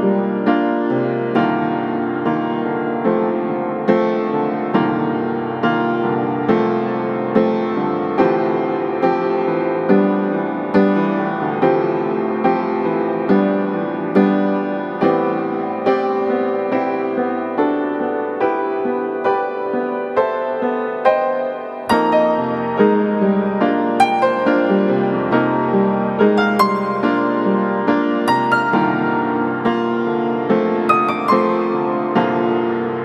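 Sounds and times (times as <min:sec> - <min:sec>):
slow piano music: 0:00.0 - 0:33.0.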